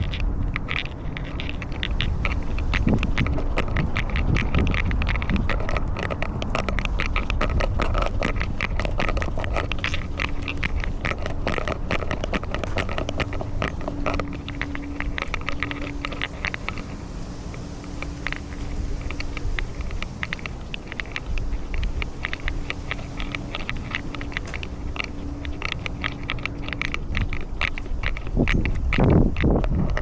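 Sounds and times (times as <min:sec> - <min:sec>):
collar clicks and jingles: 0:00.0 - 0:30.0
microphone rubbing rumble: 0:00.0 - 0:30.0.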